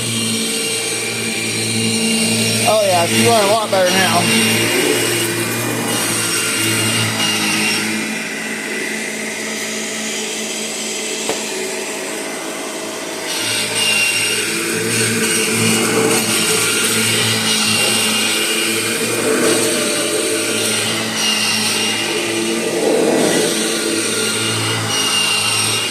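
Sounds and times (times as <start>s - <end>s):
vacuum cleaner motor running: 0.0s - 25.9s.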